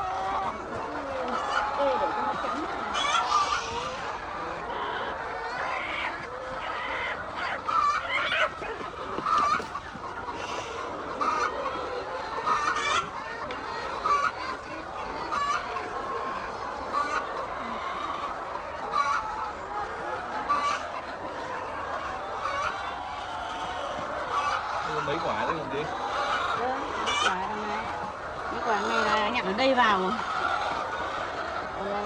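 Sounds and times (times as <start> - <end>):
chatter of many birds: 0.0 - 32.0
hens clucking: 0.0 - 32.0.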